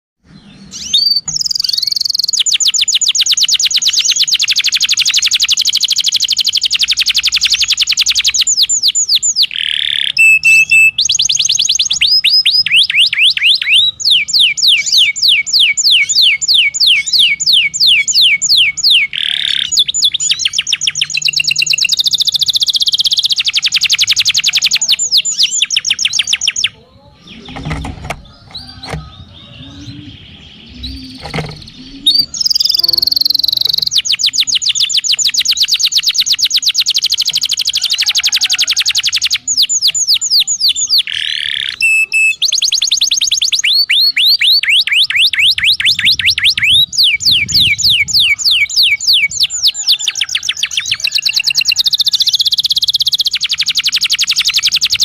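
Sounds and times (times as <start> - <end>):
canary singing: 0.2 - 55.0.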